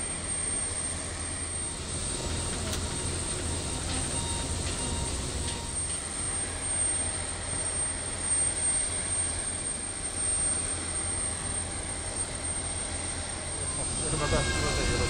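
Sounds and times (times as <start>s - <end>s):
high turbine whine: 0.0s - 15.0s
jet turbines running: 0.0s - 15.0s.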